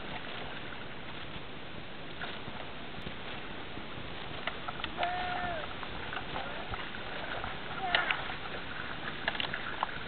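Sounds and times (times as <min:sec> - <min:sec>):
feet splashing in shallow water: 0:00.0 - 0:10.0
surf at shoreline: 0:00.0 - 0:10.0
wind: 0:00.0 - 0:10.0.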